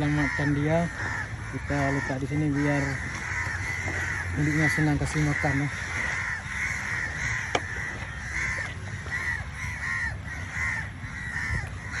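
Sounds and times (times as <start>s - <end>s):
crow cawing: 0.0s - 12.0s.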